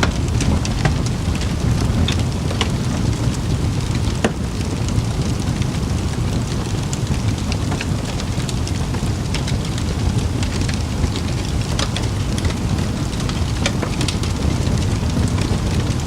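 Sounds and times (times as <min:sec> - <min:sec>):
campfire popping and snapping: 0:00.0 - 0:16.0
low rumble of fire: 0:00.0 - 0:16.0.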